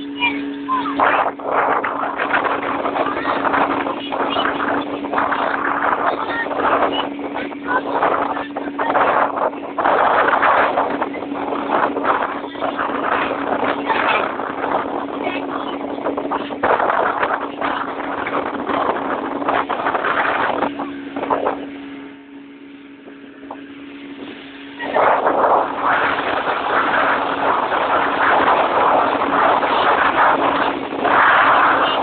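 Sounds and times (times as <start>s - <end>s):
motorboat engine running: 0.0s - 32.0s
wind and water rushing: 0.0s - 32.0s.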